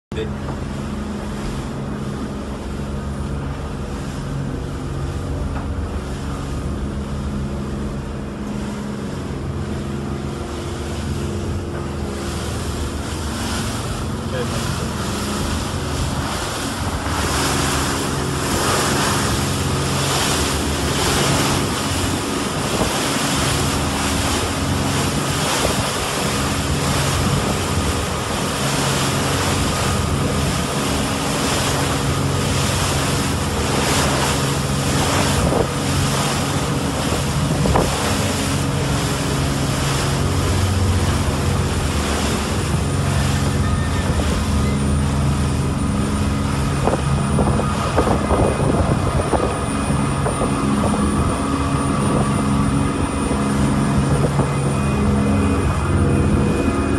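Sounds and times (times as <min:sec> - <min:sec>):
churning wake water: 0:00.0 - 0:56.9
boat engine humming: 0:00.1 - 0:56.9
wind buffeting microphone: 0:00.4 - 0:56.9.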